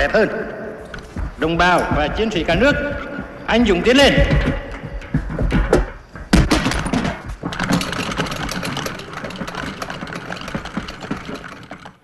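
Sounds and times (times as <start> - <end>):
machinery rapid metallic clatter: 1.0 - 12.0.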